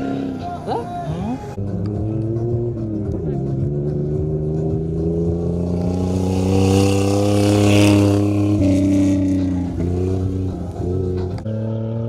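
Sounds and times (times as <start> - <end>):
car engine running hard: 1.6 - 11.9.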